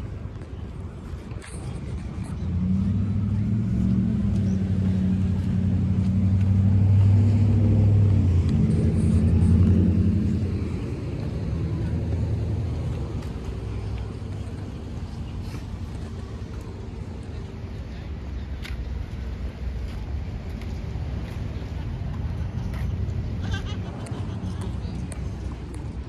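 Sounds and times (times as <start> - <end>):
vehicle engine running: 1.3 - 26.0.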